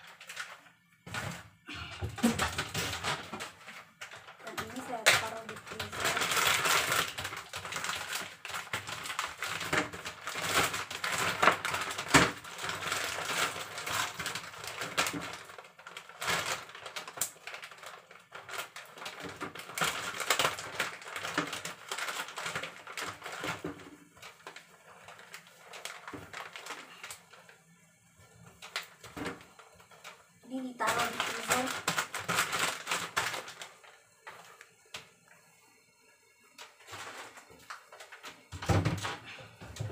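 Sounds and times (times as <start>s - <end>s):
plastic bags crinkling: 0.0s - 35.4s, 36.4s - 39.9s.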